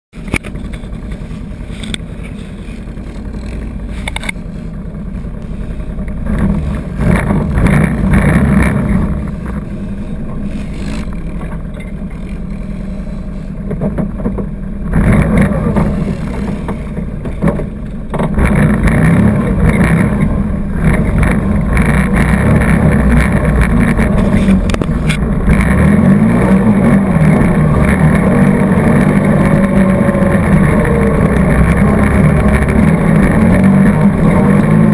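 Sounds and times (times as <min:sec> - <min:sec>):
knocks and rattles over rough trail: 0:00.1 - 0:34.9
atv engine revving: 0:00.2 - 0:34.9.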